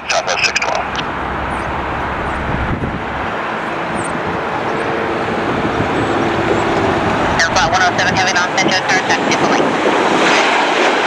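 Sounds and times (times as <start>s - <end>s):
faint engine whine: 0.0s - 10.2s
jet engine rumble: 0.0s - 11.0s.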